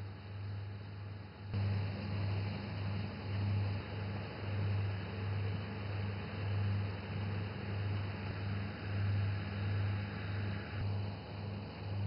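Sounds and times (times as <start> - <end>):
constant hiss: 0.0 - 12.0
water pump engine hum: 0.0 - 12.0.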